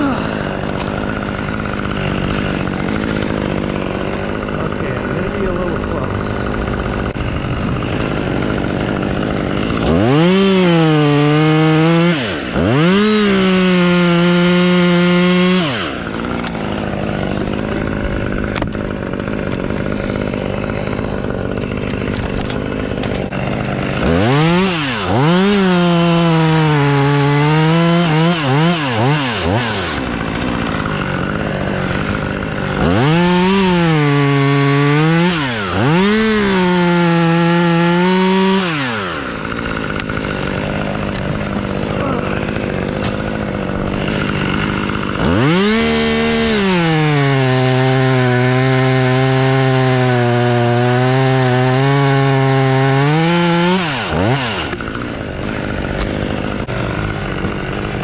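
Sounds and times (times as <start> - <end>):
chainsaw cutting wood: 0.0 - 58.0
chainsaw idling and revving: 0.0 - 58.0.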